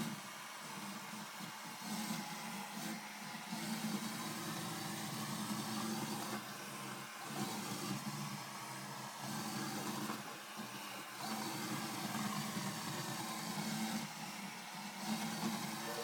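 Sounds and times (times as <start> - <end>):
robot vacuum running: 0.0 - 16.0.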